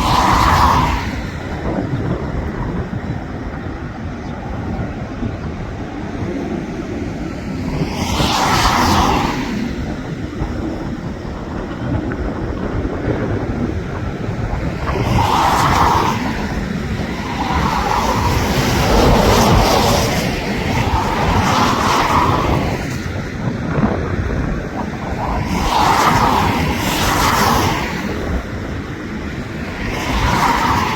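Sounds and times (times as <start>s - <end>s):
airliner landing: 0.0s - 30.9s
wind buffeting microphone: 0.0s - 30.9s.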